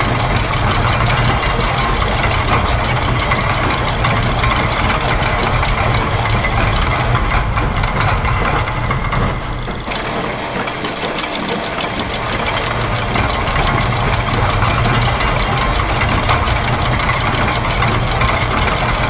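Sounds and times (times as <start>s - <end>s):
factory machines clicking and rattling: 0.0s - 19.0s
low machine hum: 0.0s - 19.0s.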